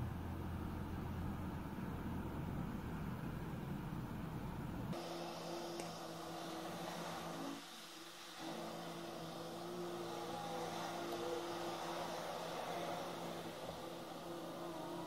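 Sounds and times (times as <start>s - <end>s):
electric fan whir: 0.0s - 15.0s
low two-tone hum: 0.0s - 15.0s.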